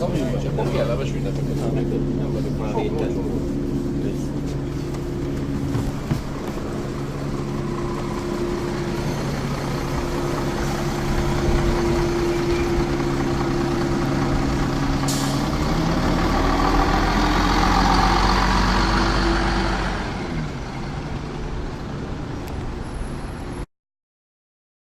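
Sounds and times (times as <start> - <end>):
bus diesel engine running: 0.0 - 23.6.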